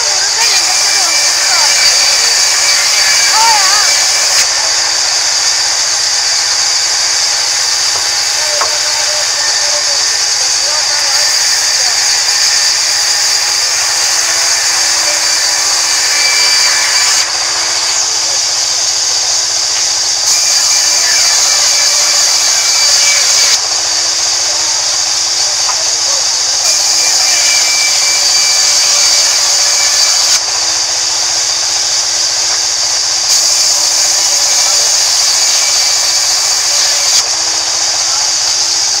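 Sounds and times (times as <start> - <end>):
band saw cutting wood: 0.0 - 39.0.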